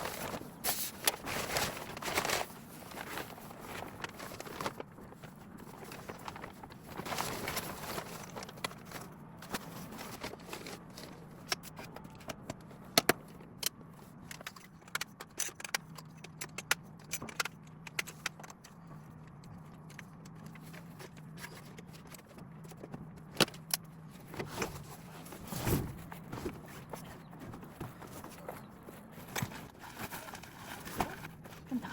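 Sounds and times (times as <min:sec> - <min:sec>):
objects clicking and rattling: 0:00.0 - 0:31.9.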